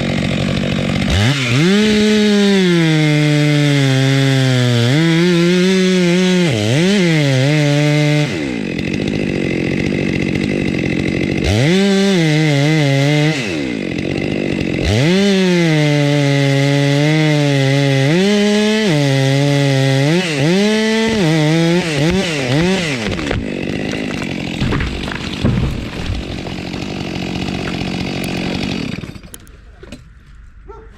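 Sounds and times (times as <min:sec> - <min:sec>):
chainsaw running at high revs: 0:00.0 - 0:29.5.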